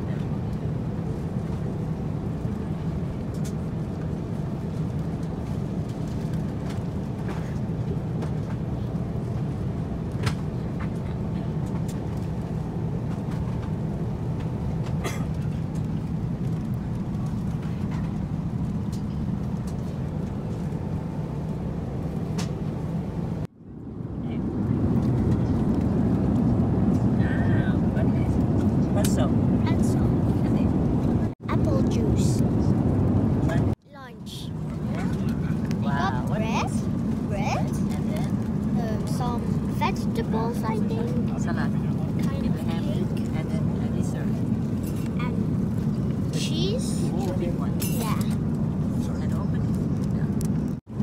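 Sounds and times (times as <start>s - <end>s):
airliner cabin rumble: 0.0s - 51.0s.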